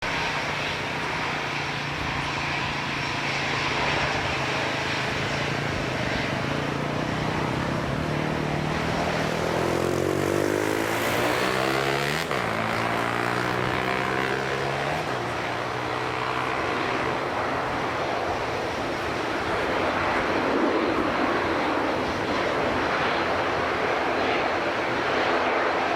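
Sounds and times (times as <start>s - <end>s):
jet engines roaring: 0.0s - 25.9s.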